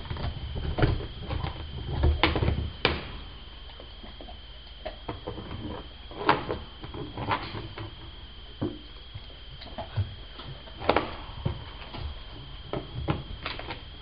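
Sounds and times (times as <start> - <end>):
dog chewing a bone: 0.0 - 2.7, 3.6 - 13.8.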